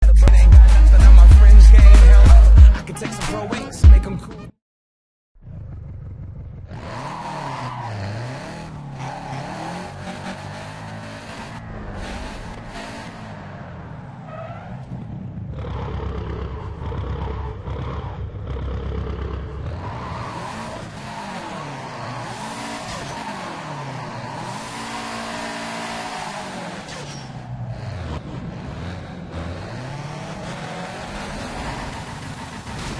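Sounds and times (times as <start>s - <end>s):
car engine revving: 5.4s - 32.9s.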